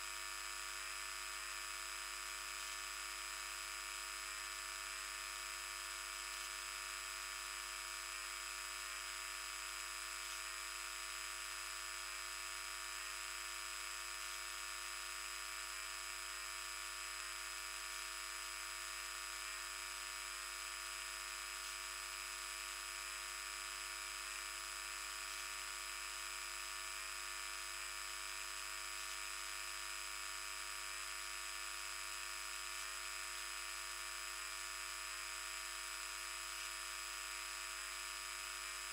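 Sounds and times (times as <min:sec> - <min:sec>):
high buzzy electrical whine: 0:00.0 - 0:38.9.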